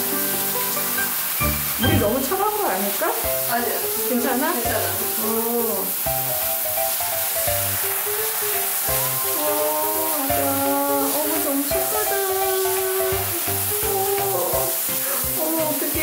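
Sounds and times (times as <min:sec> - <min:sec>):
background music: 0:00.0 - 0:16.0
shower spraying water: 0:00.0 - 0:16.0.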